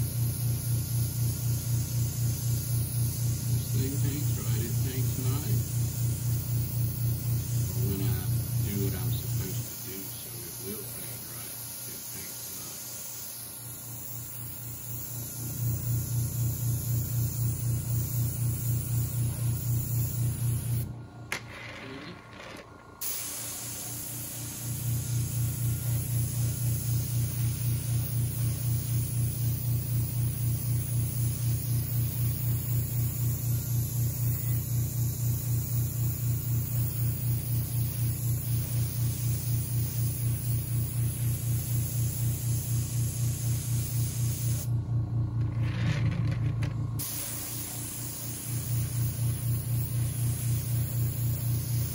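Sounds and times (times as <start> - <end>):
airbrush spraying hiss: 0.0 - 20.9, 23.0 - 44.7, 47.0 - 51.9
compressor pulsing hum: 0.0 - 51.9.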